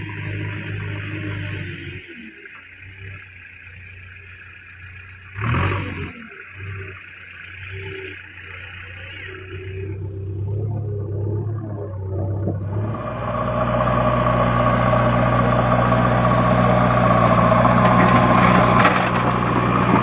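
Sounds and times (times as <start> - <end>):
backhoe diesel engine running: 0.0 - 20.0.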